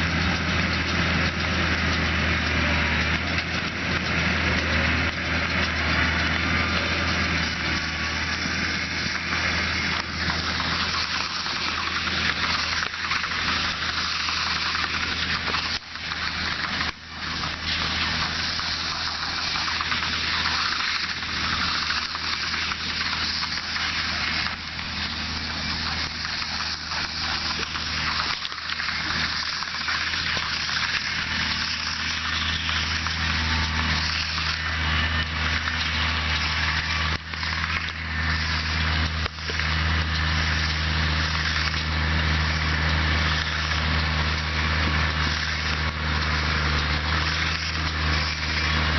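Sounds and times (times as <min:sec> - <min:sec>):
loud even hiss: 0:00.0 - 0:48.9
tractor engine running: 0:00.0 - 0:48.9.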